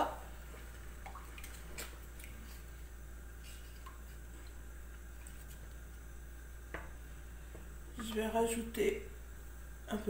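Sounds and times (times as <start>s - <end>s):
faint sloshing: 0.0s - 9.4s
low steady hum: 0.0s - 10.0s.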